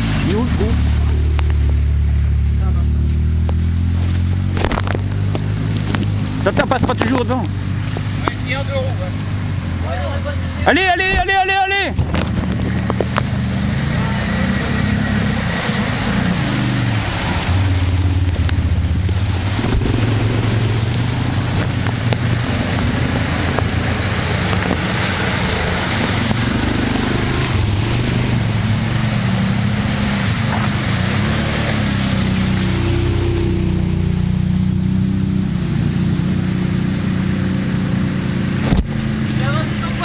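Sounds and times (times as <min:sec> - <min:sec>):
quad bike engines at low revs: 0:00.0 - 0:10.8, 0:11.9 - 0:40.0.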